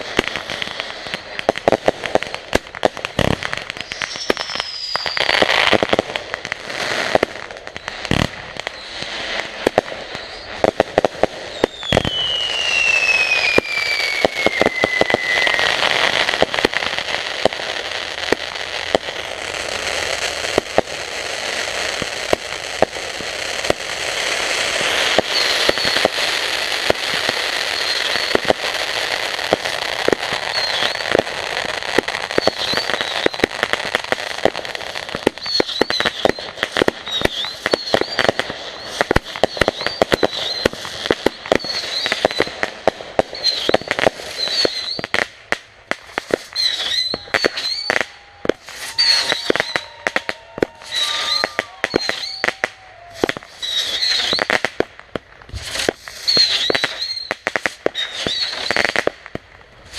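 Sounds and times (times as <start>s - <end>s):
fireworks crackling pops: 0.0s - 59.9s
fireworks hissing: 0.0s - 59.9s.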